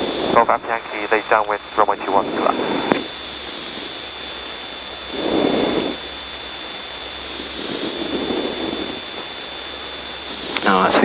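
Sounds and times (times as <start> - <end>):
faint high whine: 0.0 - 11.0
headset intercom hiss: 0.0 - 11.0
muffled rushing noise: 0.0 - 11.0.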